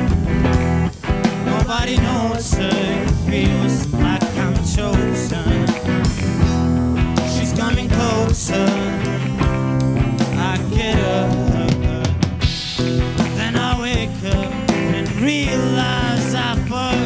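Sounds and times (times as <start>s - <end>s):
drum kit steady beat: 0.0s - 17.0s
electric guitars: 0.0s - 17.0s.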